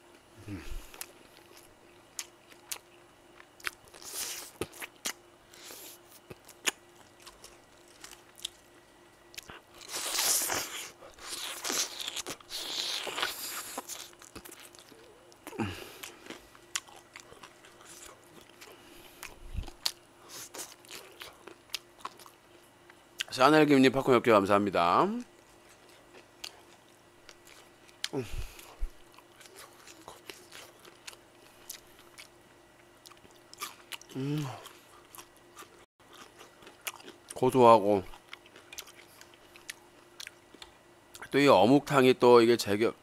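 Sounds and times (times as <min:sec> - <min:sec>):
crunchy chewing of fried food: 0:00.0 - 0:23.4, 0:25.2 - 0:41.4.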